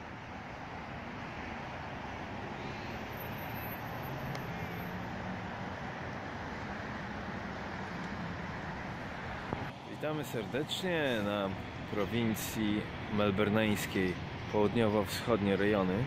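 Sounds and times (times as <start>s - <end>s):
cars passing on road: 0.0s - 16.0s.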